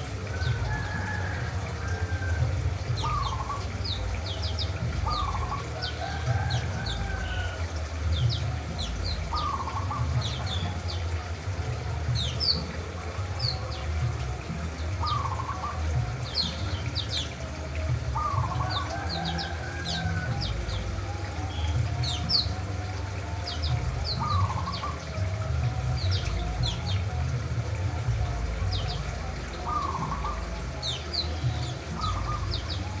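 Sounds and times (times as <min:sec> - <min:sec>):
small songbirds chirping: 0:00.0 - 0:33.0.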